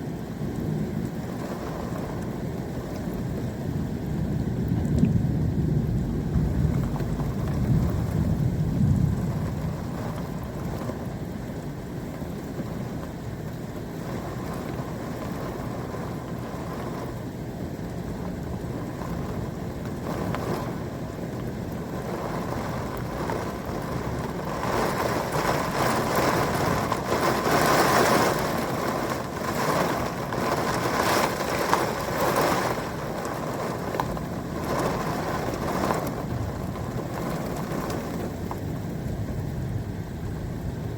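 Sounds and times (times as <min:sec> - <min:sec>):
gusting wind: 0:00.0 - 0:40.9
steady rain: 0:00.0 - 0:40.9
thunder rumble: 0:00.0 - 0:40.9.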